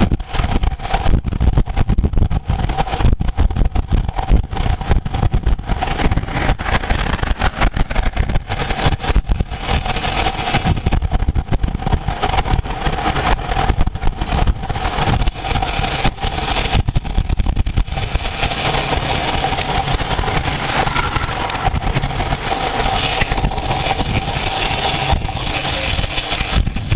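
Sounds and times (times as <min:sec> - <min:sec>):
road noise: 0:00.0 - 0:26.9
steady hum: 0:00.0 - 0:26.9
wind buffeting microphone: 0:00.0 - 0:26.9.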